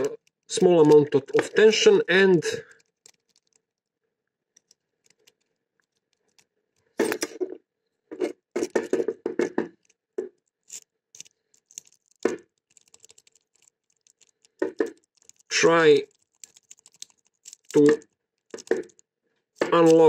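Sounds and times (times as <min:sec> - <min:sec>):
key scraping and clicking in lock: 0:00.0 - 0:01.9, 0:02.6 - 0:03.9, 0:04.5 - 0:20.0.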